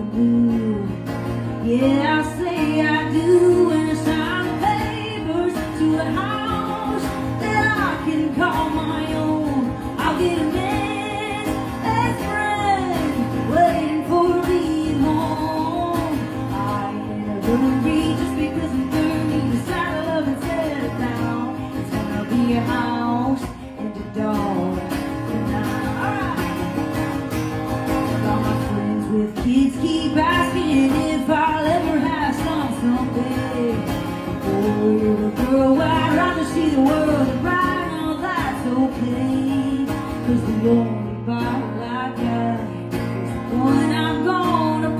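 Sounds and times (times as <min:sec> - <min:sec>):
acoustic guitar strumming: 0:00.0 - 0:44.9
woman singing: 0:00.0 - 0:44.9.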